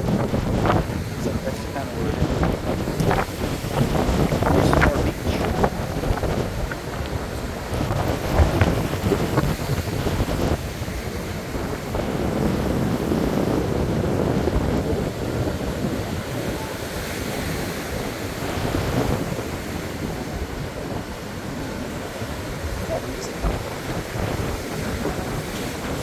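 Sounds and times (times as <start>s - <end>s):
surf breaking and washing: 0.0s - 26.0s
wind buffeting the microphone: 0.0s - 26.0s.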